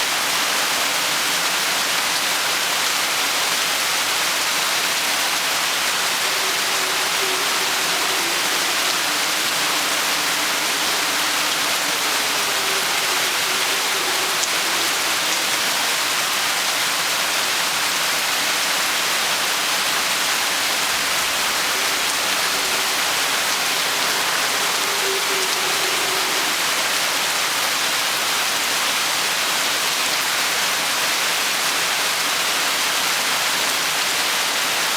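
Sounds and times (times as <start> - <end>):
heavy rain hiss: 0.0 - 34.9.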